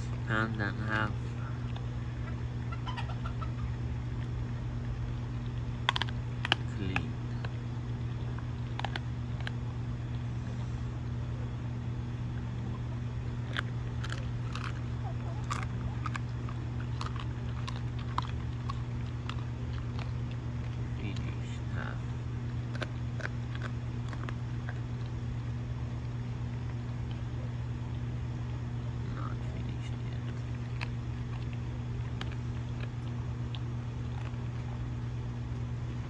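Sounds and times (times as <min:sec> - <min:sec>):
steady low hum: 0:00.0 - 0:36.0
dog crunching bone: 0:04.0 - 0:10.4, 0:13.0 - 0:35.7.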